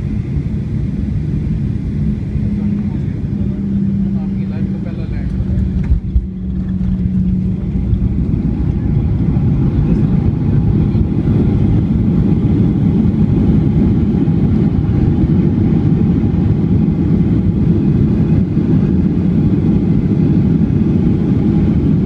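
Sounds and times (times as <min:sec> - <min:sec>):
plane cabin engine rumble: 0:00.0 - 0:22.0.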